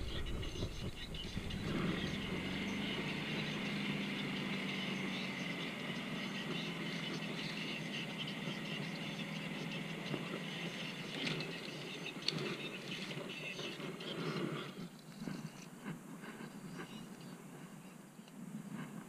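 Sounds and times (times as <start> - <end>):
golf cart on bumpy dirt path: 0.0 - 18.0.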